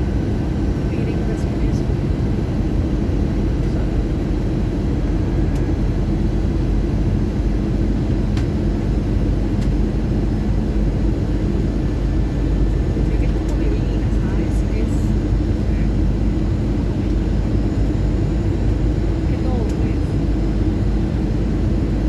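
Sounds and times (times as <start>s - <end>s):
engines rumbling and rushing air: 0.0s - 22.0s.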